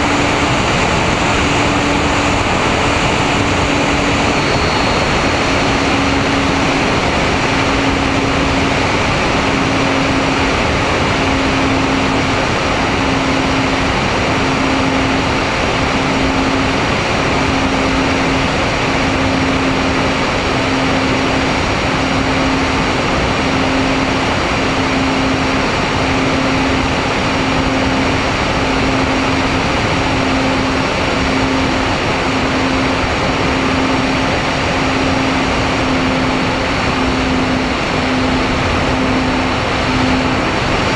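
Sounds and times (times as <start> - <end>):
heavy wind rush: 0.0 - 40.9
pulsing propeller hum: 0.0 - 40.9.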